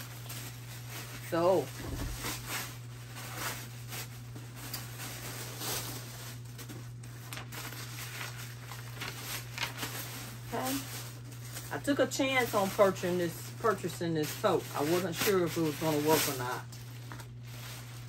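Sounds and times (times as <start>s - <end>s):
packaging wrap crinkling: 0.0s - 18.0s.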